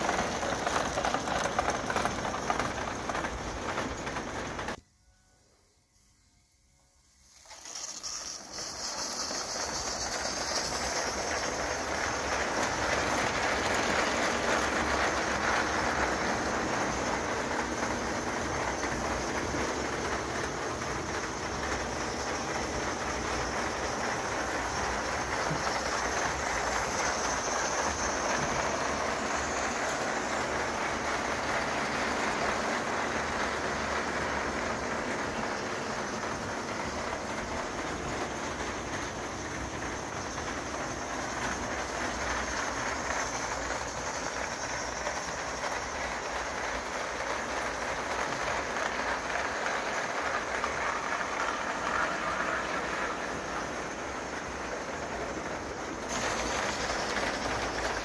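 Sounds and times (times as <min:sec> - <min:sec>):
steam hissing from model locomotive: 0:00.0 - 0:58.0.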